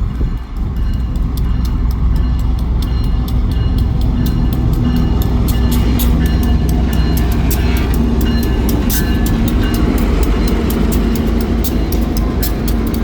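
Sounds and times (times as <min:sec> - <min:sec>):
locomotive engine rumble: 0:00.0 - 0:13.0
train wheels clicking and clanking: 0:00.0 - 0:13.0.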